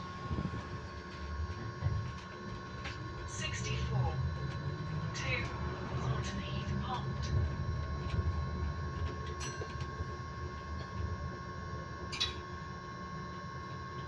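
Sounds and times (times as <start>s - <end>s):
steady high-pitched tone: 0.0s - 12.9s
low rumble of bus: 0.0s - 14.0s.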